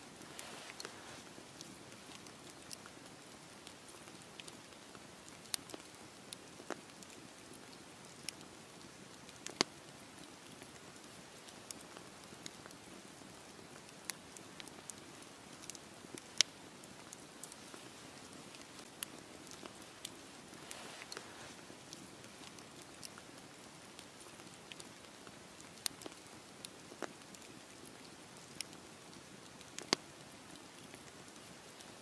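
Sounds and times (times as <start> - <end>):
campfire hissing: 0.0 - 32.0
fire crackling and popping: 0.0 - 32.0.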